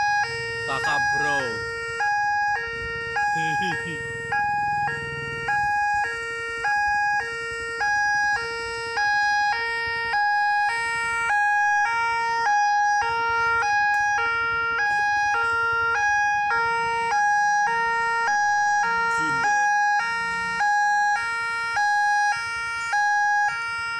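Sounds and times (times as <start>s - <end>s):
level crossing two-tone alarm: 0.0s - 23.9s.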